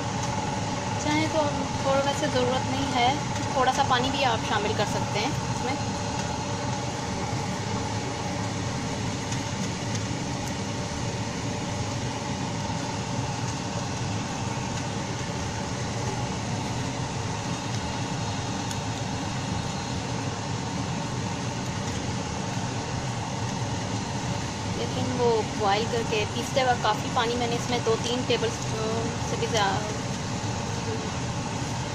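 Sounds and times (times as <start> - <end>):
constant hum with faint tone: 0.0 - 31.9.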